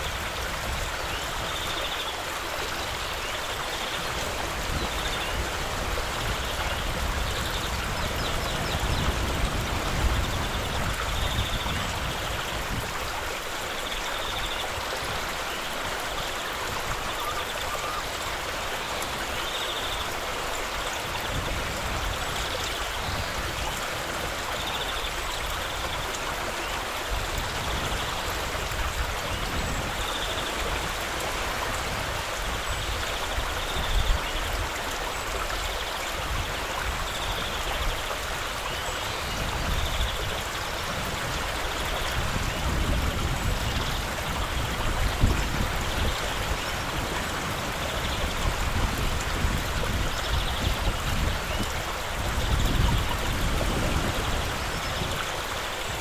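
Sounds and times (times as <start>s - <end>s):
river flowing over gravel: 0.0s - 56.0s.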